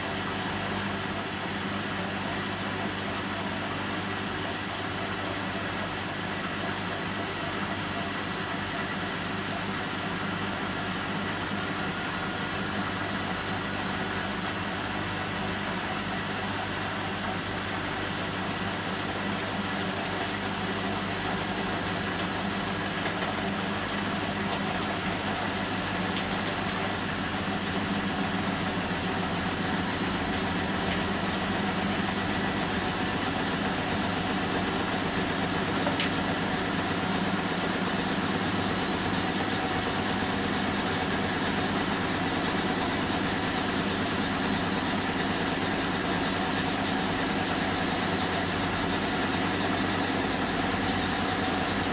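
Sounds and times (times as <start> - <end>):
washing machine and dishwasher humming: 0.0 - 51.9.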